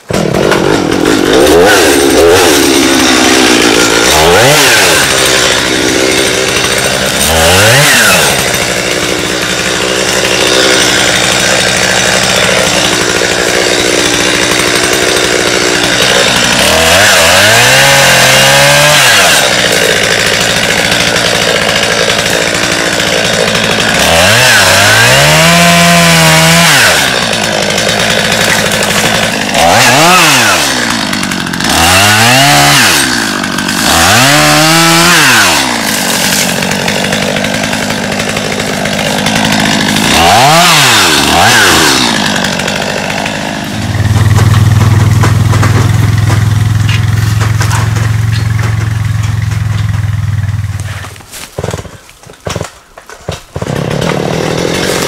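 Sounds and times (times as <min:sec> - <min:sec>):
chainsaw engine revving: 0:00.0 - 0:52.7, 0:53.4 - 0:55.0.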